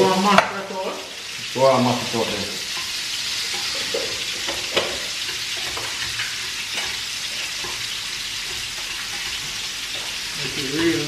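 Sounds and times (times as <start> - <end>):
steak sizzling in a pan: 0.0 - 11.0.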